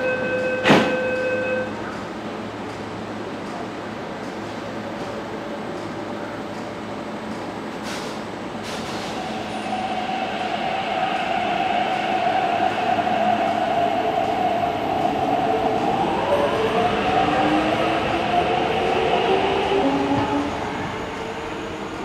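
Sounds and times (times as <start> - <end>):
metro train running: 0.0 - 22.0.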